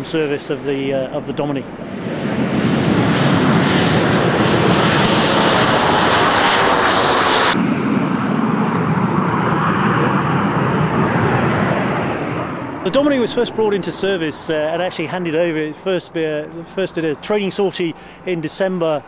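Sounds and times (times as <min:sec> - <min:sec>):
jet aircraft roar on take-off: 0:00.0 - 0:19.0.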